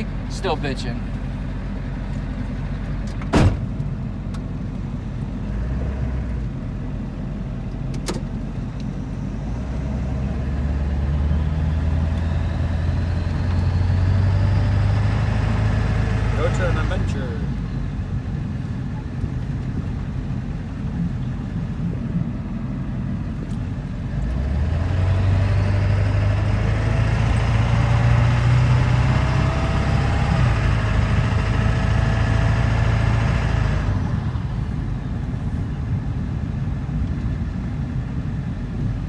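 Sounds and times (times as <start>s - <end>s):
diesel engine without muffler: 0.0s - 39.0s.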